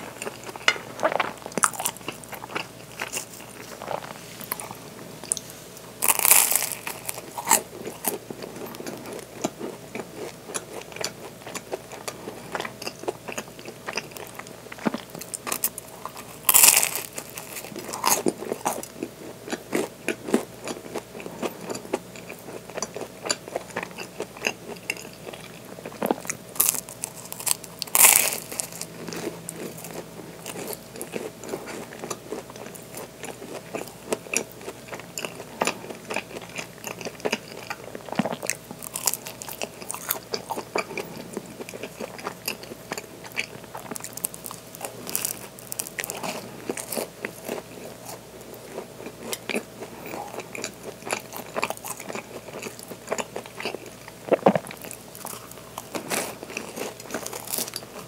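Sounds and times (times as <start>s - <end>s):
biting and chewing pastry: 0.0s - 5.4s, 6.0s - 58.0s.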